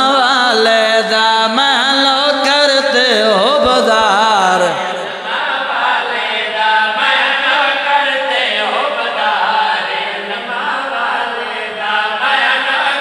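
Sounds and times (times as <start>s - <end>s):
man chanting unaccompanied: 0.0s - 13.0s.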